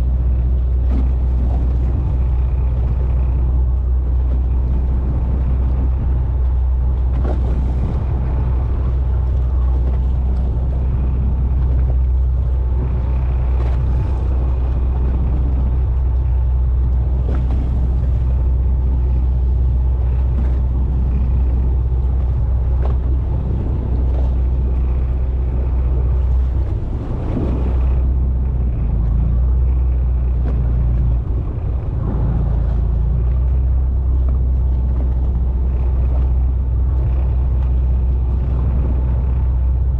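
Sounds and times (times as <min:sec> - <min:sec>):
boat diesel engine humming: 0:00.0 - 0:39.9.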